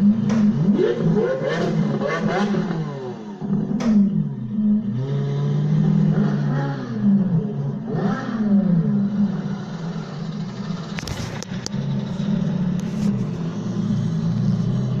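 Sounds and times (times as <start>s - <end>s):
car engines droning: 0.0s - 15.0s.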